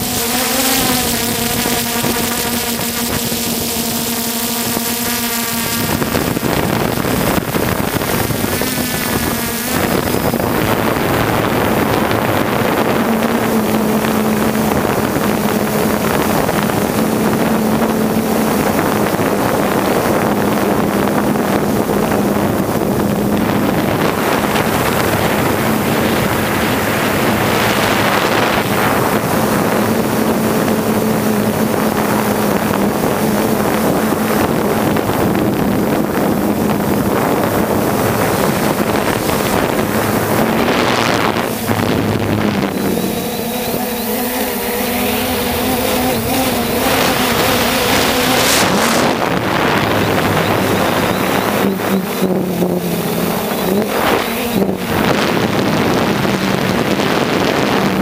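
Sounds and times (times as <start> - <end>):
drone motors humming: 0.0 - 58.0
wind rush over microphone: 0.0 - 58.0.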